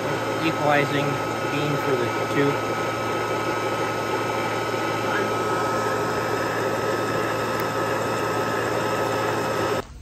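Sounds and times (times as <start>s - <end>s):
milling machine whining: 0.0s - 9.9s.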